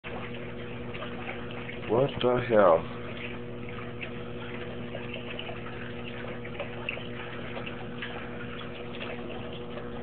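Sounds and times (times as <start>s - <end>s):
garbage disposal motor humming: 0.0s - 10.0s
water dripping: 0.0s - 10.0s
water splashing from drain: 0.0s - 10.0s.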